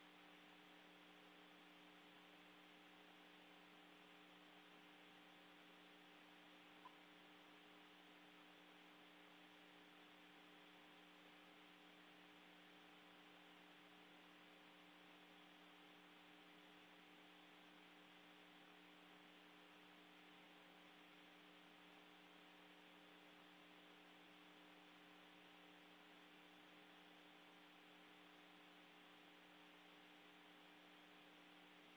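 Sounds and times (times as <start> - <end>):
faint electrical hum with hiss: 0.0 - 31.9.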